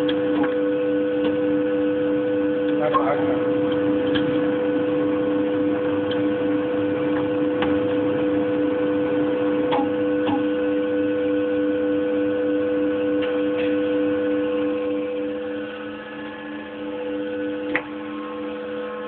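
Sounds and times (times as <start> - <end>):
grinder humming: 0.0 - 19.0.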